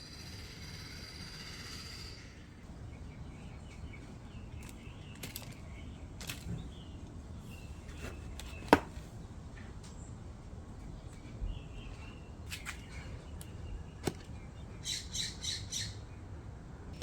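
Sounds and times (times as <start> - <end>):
small birds chirping faintly: 0.0 - 16.8
low outdoor rumble: 0.0 - 17.0.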